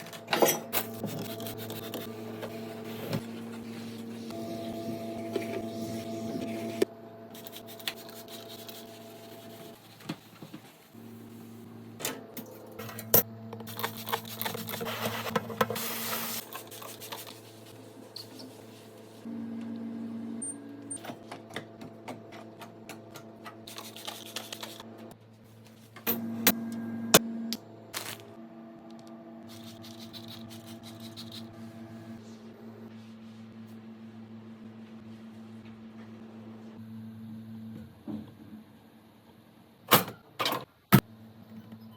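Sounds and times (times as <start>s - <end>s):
steady appliance hum: 0.0s - 39.9s.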